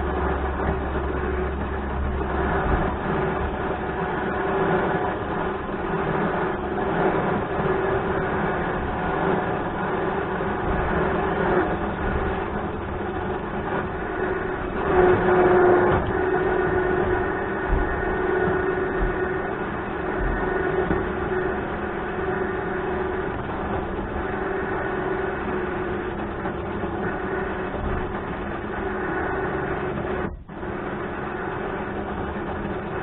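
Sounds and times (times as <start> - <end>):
electric winch motor humming: 0.0 - 33.0.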